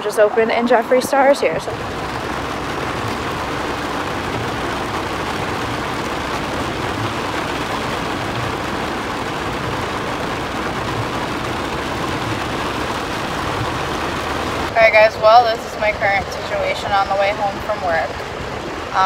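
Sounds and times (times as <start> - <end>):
low rumble of car: 0.0 - 19.0
heavy rain drumming on car roof: 0.1 - 19.0.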